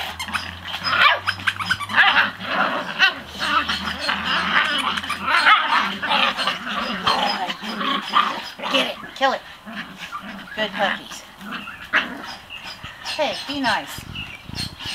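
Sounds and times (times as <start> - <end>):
puppies yipping and whining: 0.0 - 14.9.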